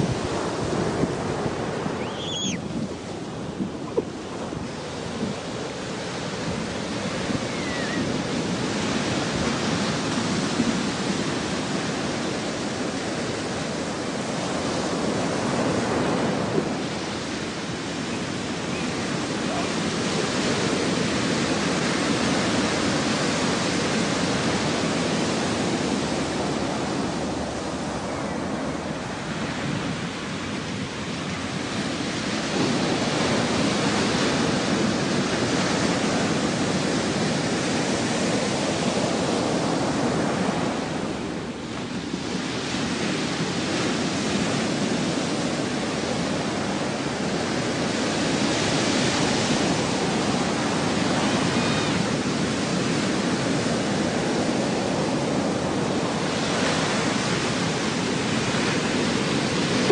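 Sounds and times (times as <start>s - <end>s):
ocean surf: 0.0s - 59.9s.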